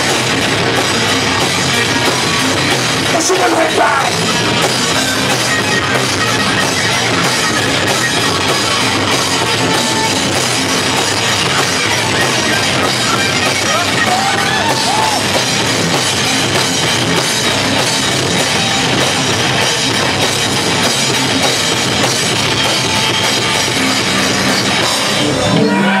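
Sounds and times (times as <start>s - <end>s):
thrash metal band playing live: 0.0s - 26.0s.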